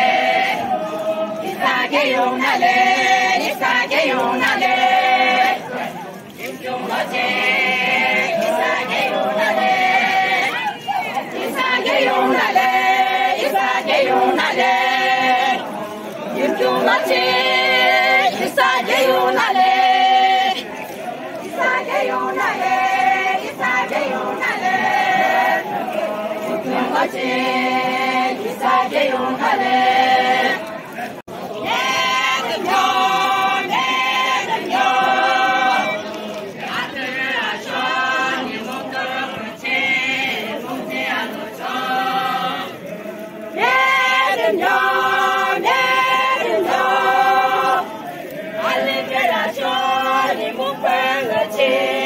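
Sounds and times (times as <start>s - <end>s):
group of voices singing folk song: 0.0s - 52.0s.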